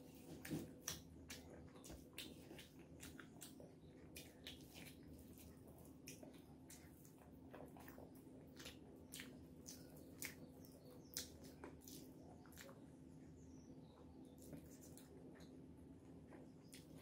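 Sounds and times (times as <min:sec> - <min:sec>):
wet chewing and squishes: 0:00.0 - 0:17.0.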